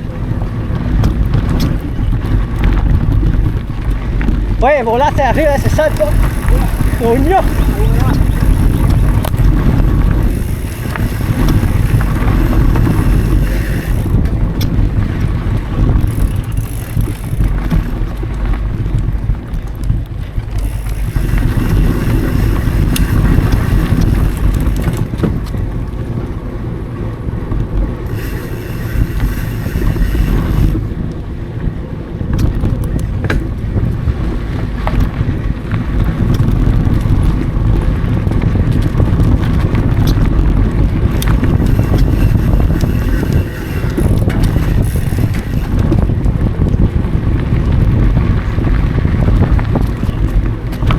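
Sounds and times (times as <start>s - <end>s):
bike clicks and rattles: 0.0s - 50.9s
bike tyres rumbling on dirt: 0.0s - 50.9s
wind buffeting microphone: 0.0s - 50.9s.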